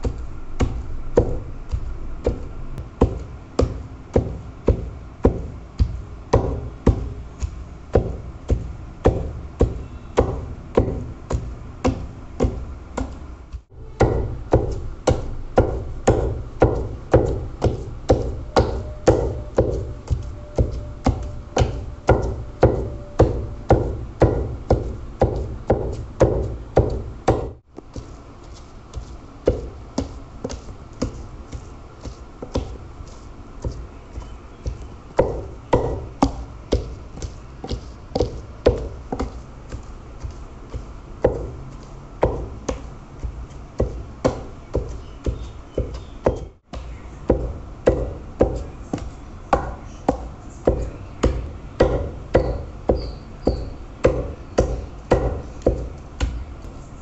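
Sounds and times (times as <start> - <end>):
pestle pounding meat in mortar: 0.0 - 56.8.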